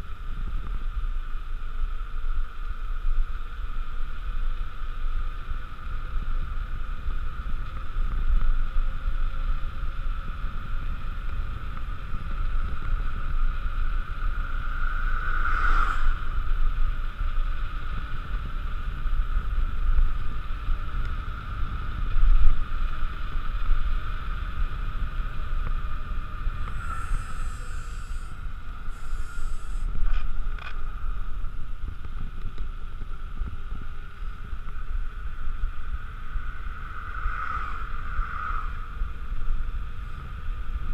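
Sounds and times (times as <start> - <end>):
bike wheels whirring on tarmac: 0.0 - 40.9
wind rumble on microphone: 0.0 - 40.9.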